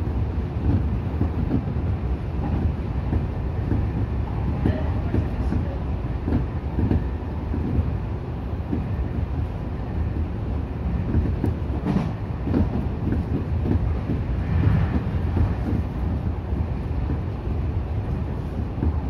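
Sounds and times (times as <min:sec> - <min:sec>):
train low rumble: 0:00.0 - 0:19.0
wheels clicking on rails: 0:00.0 - 0:19.0.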